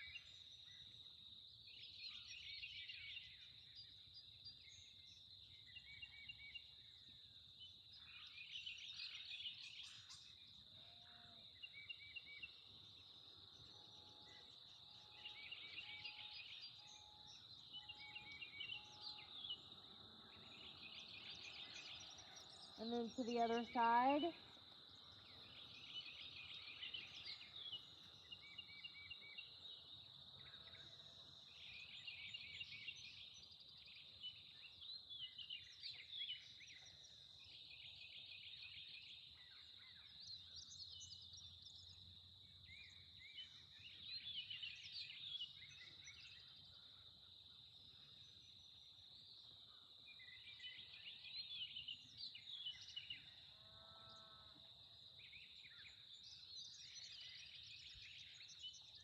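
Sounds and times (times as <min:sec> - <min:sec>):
birds chirping and trilling: 0:01.7 - 0:42.0, 0:42.6 - 0:59.0.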